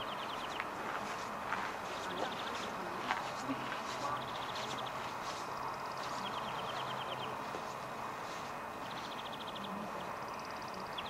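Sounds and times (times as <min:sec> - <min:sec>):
songbirds trilling: 0:00.0 - 0:11.0
steady outdoor hiss: 0:00.0 - 0:11.0.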